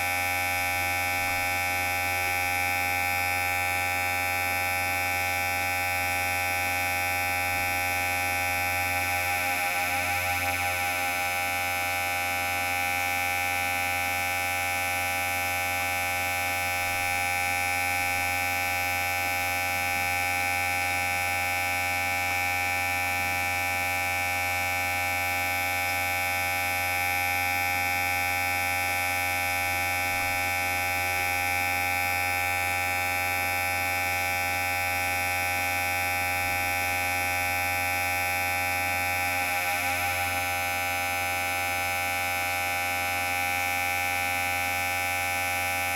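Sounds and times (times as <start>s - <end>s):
electric hair clipper buzzing: 0.0s - 45.9s.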